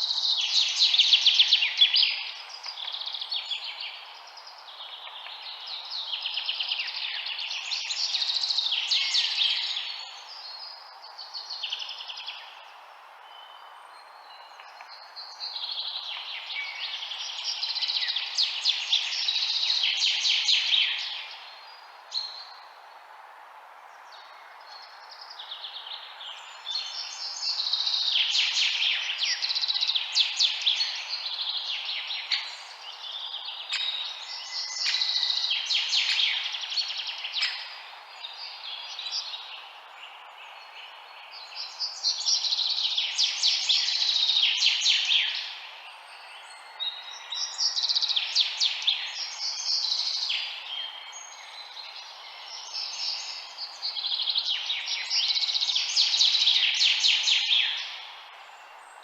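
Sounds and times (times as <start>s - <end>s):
small birds chirping: 0.0s - 23.0s, 23.9s - 59.0s.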